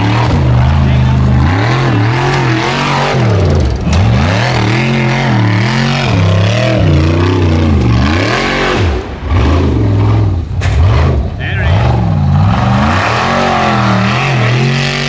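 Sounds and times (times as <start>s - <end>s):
buggy engine revving hard: 0.0s - 15.0s.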